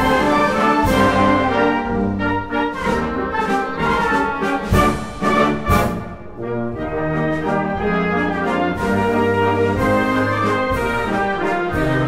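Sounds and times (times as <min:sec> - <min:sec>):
orchestral hits: 0:00.0 - 0:12.0
orchestral music with brass: 0:00.0 - 0:12.0.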